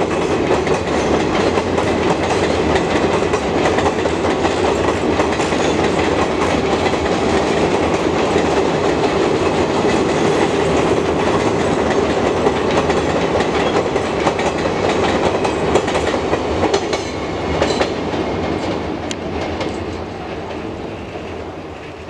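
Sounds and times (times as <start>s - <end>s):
train rumbling over bridge: 0.0s - 22.0s
wheels clicking over rail joints: 0.0s - 22.0s.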